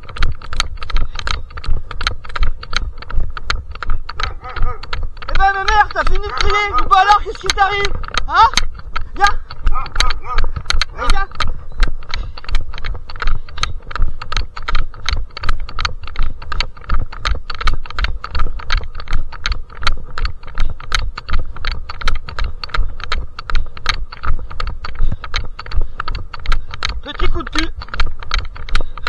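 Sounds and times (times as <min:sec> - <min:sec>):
runner's footsteps: 0:00.0 - 0:29.0.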